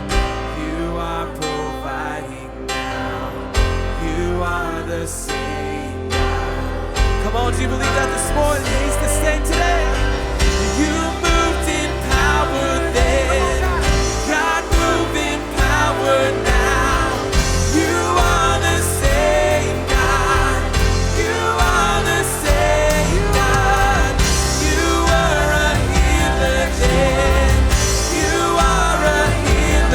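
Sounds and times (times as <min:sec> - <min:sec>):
person singing: 0:00.0 - 0:29.9
worship band playing: 0:00.0 - 0:29.9.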